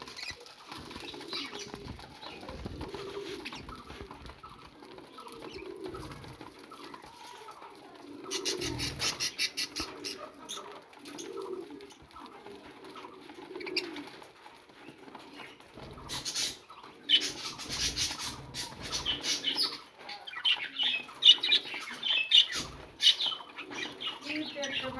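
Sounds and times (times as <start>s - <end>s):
birds cooing: 0.0s - 24.9s
wings flapping: 0.0s - 24.9s.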